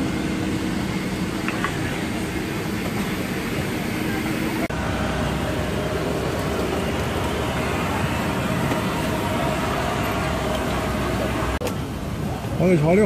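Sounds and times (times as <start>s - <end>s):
cabin air conditioning rushing: 0.0s - 13.0s.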